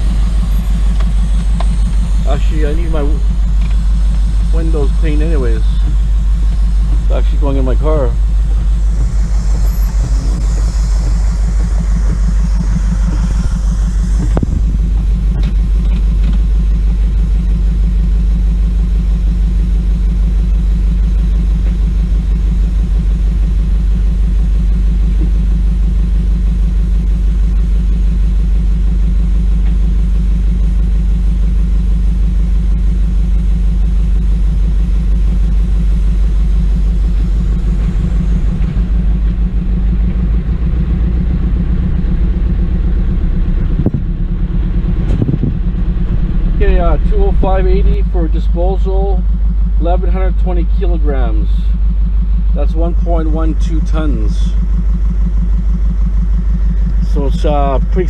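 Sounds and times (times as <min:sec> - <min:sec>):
truck engine rumble from cab: 0:00.0 - 0:58.0.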